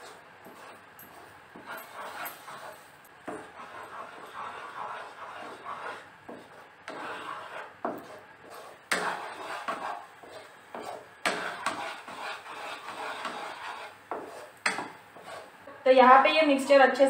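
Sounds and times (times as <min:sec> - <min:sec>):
spatula scraping a pan: 0:00.0 - 0:15.7.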